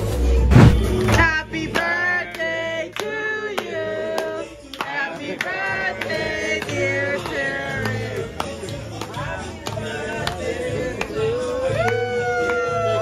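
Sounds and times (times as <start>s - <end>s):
voices singing together: 0.6s - 13.0s.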